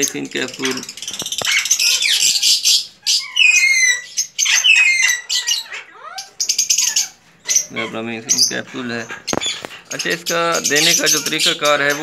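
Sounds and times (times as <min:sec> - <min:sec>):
pet birds chirping and squawking: 0:00.0 - 0:12.0.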